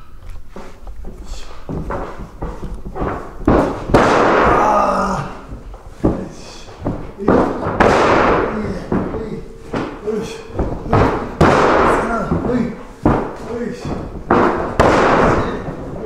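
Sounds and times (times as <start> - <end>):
wrestling ring rattling: 0.0 - 16.0
bodies slamming on ring canvas: 1.2 - 16.0.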